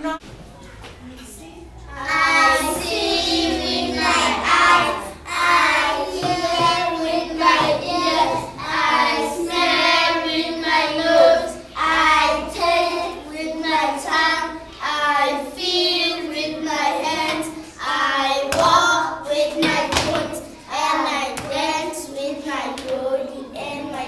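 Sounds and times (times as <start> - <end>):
young children singing: 1.8 - 24.0.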